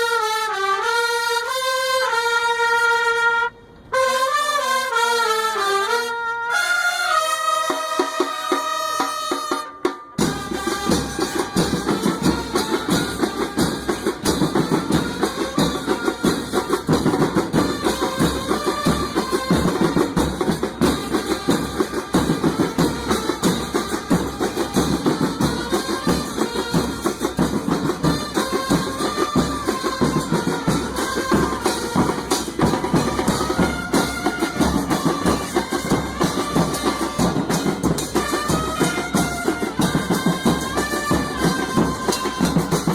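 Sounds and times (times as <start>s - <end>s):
music with drum kit beat: 8.0s - 42.9s.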